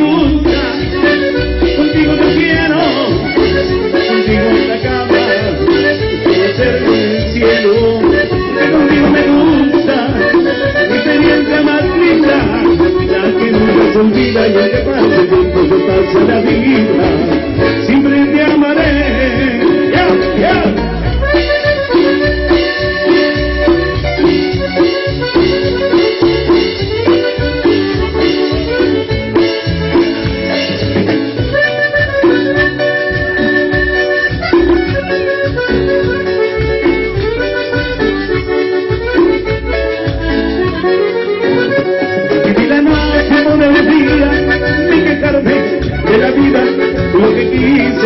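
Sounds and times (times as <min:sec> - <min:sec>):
accordion melody: 0:00.0 - 0:48.0.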